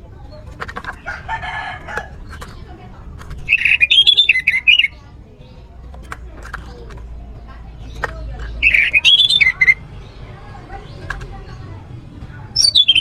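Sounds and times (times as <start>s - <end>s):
thrush singing: 0.0s - 13.0s.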